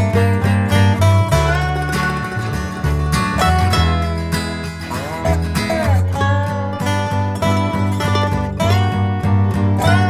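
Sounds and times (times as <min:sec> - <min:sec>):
country style acoustic guitar music: 0:00.0 - 0:10.0
steady bass: 0:00.0 - 0:10.0.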